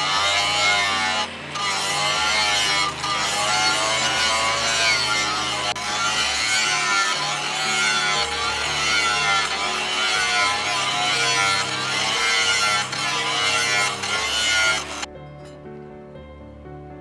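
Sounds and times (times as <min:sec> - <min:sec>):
tool rasping steel blade: 0:00.0 - 0:15.1.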